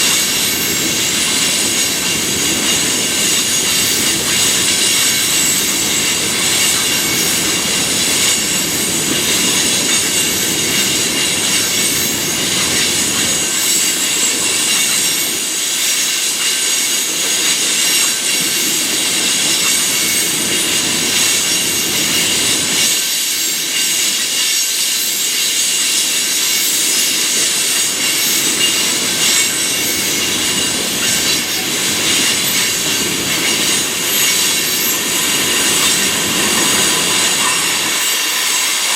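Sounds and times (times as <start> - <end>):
train wheel squeal: 0.0 - 38.9
train wheels clattering on rails: 0.0 - 38.9.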